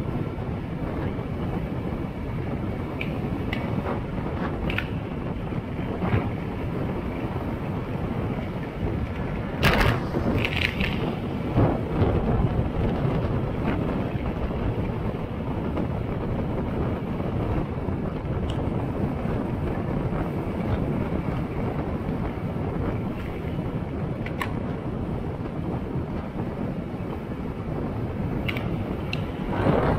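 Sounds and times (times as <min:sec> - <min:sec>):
road and engine rumble: 0:00.0 - 0:29.9
wind rushing over microphone: 0:00.0 - 0:29.9.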